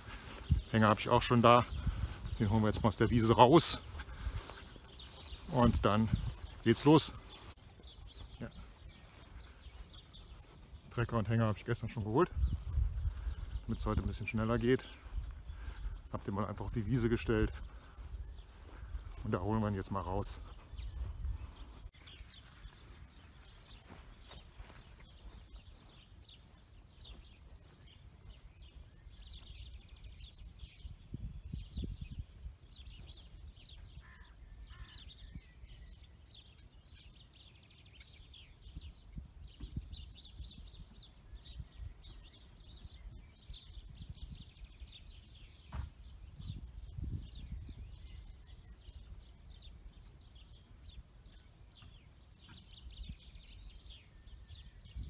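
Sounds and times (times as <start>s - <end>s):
wind rumbling on microphone: 0.0s - 10.9s, 11.6s - 55.0s
small birds chirping and singing: 0.0s - 55.0s.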